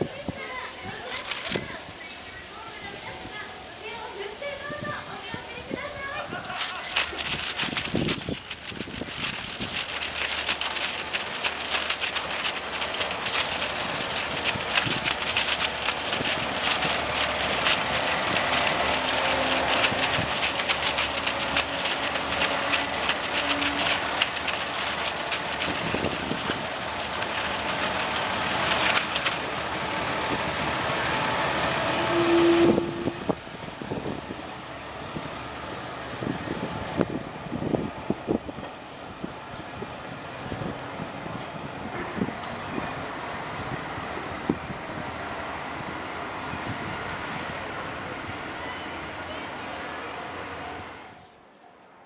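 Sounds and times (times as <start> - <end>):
wind buffeting microphone: 0.0 - 48.6
diesel train engine running: 0.4 - 51.2.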